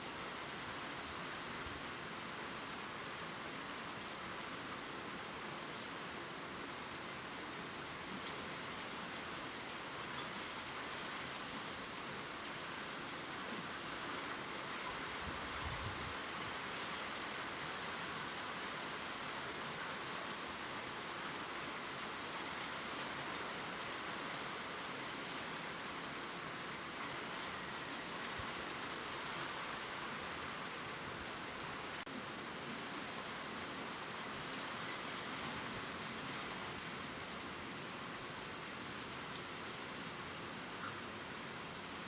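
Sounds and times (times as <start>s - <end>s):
gentle rain on leaves: 0.0s - 42.0s.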